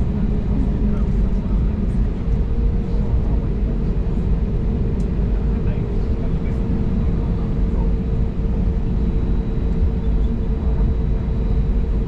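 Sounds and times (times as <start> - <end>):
aircraft cabin rumble: 0.0 - 12.0
mid-pitched hum: 0.0 - 12.0.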